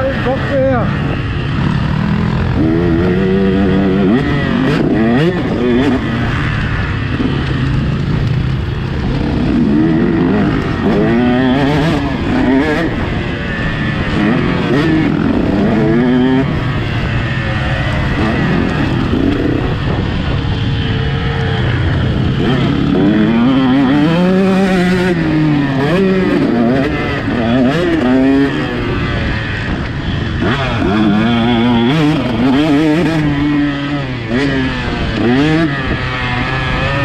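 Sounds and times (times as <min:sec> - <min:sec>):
motocross bike engine revving: 0:00.0 - 0:37.0.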